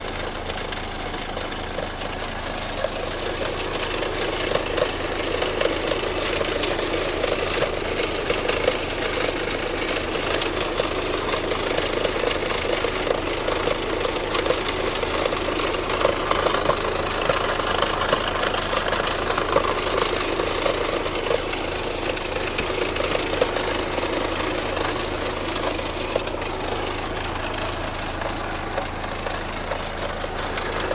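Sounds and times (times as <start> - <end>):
car engine clattering: 0.0 - 30.9.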